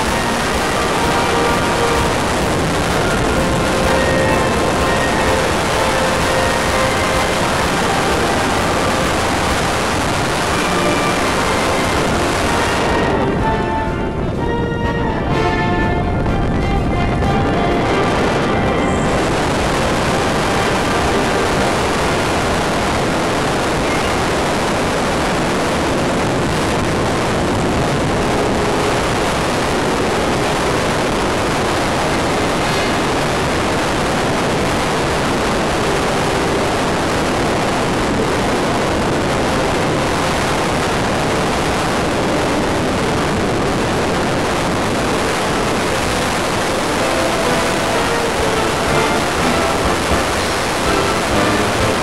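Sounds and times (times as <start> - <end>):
air rushing over microphone: 0.0 - 52.0.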